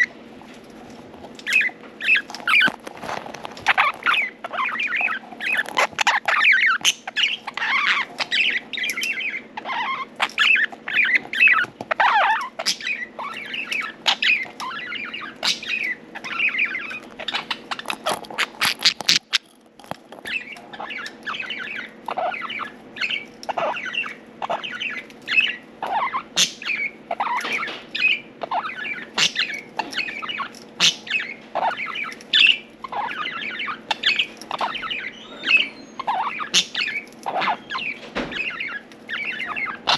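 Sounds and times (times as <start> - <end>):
budgerigars chirping and warbling: 0.0 - 0.2, 1.3 - 39.9
faint steady hum: 0.0 - 39.9.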